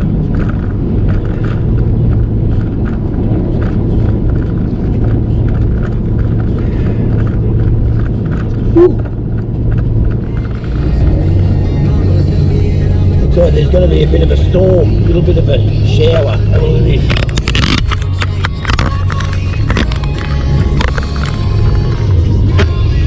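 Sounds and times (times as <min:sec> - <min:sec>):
road and wind noise: 0:00.0 - 0:23.0
vehicle rumble on highway: 0:00.0 - 0:23.0.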